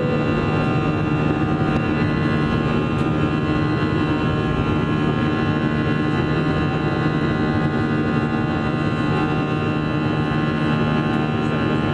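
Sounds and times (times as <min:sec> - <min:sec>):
aircraft cabin engine roar: 0:00.0 - 0:11.9.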